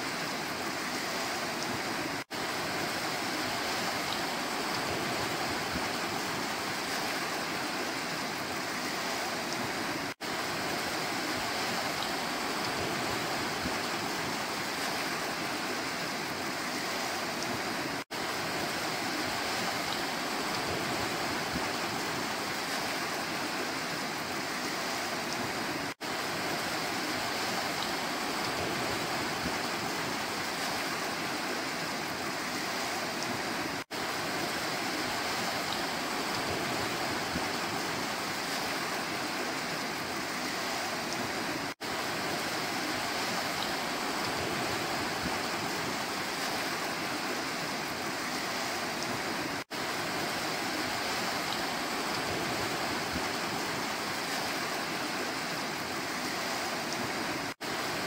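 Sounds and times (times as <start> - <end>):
waves washing onto pebble shore: 0.0 - 58.0.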